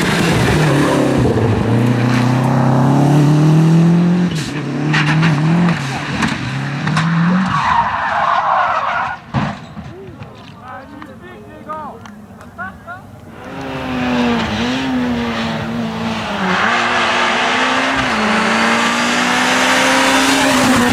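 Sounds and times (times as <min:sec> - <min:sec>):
rally car engine revving: 0:00.0 - 0:09.2, 0:13.3 - 0:20.9
tyres skidding: 0:00.0 - 0:20.9.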